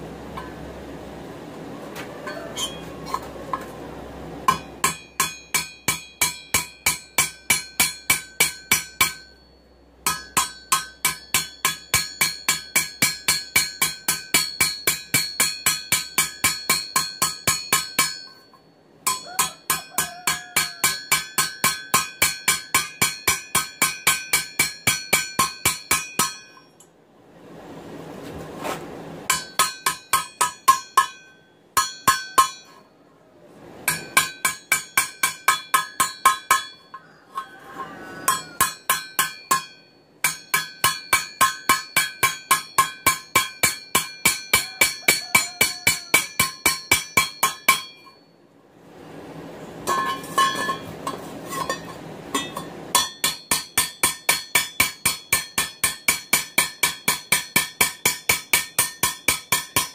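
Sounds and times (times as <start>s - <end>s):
hammer striking steel on anvil: 4.4s - 26.9s, 29.3s - 32.9s, 33.8s - 37.5s, 38.2s - 48.3s, 49.8s - 59.9s
anvil ringing: 4.5s - 26.8s, 29.3s - 32.8s, 33.9s - 37.1s, 38.2s - 48.3s, 49.8s - 59.9s.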